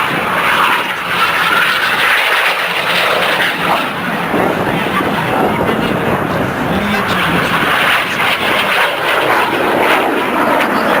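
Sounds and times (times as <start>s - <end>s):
jet engines rushing: 0.0s - 10.7s.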